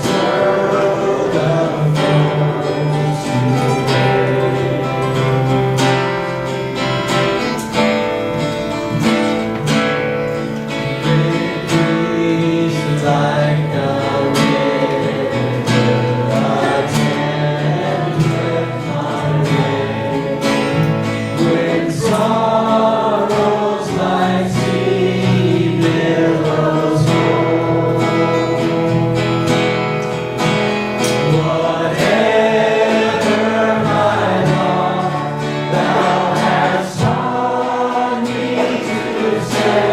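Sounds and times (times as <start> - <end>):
group singing gospel song: 0.0 - 39.9
guitar accompaniment: 0.0 - 39.9.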